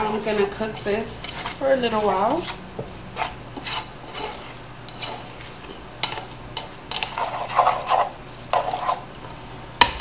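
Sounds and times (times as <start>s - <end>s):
spoon scraping frying pan: 0.0s - 2.6s, 3.2s - 9.1s.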